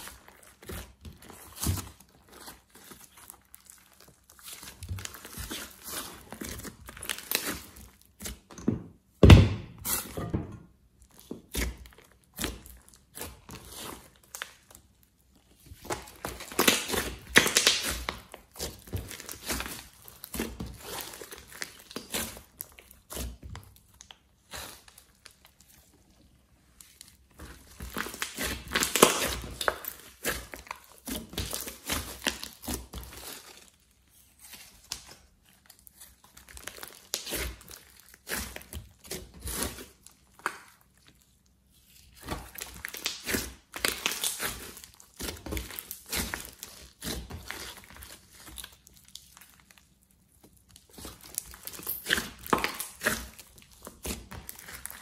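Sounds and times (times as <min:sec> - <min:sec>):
hands kneading slime: 0:00.0 - 0:55.0.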